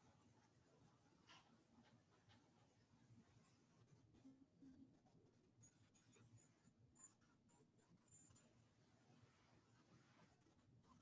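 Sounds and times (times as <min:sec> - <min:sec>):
faint low background noise: 0:00.0 - 0:11.0.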